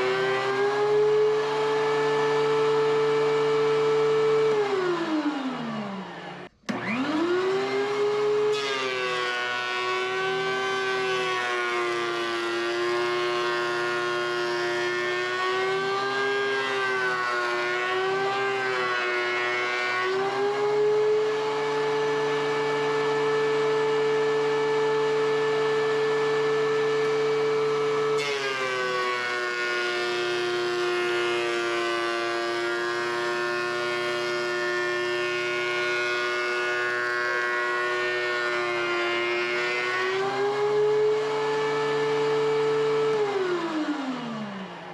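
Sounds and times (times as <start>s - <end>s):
thickness planer whining: 0.0s - 44.9s.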